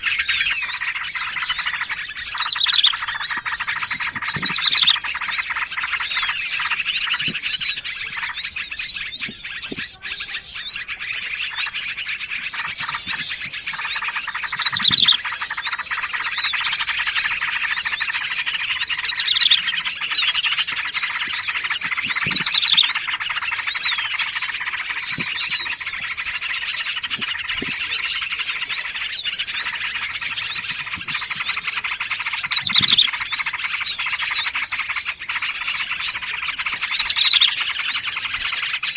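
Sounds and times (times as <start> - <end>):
fast high bird trill: 0.0 - 38.9
songbirds chattering: 0.0 - 38.9.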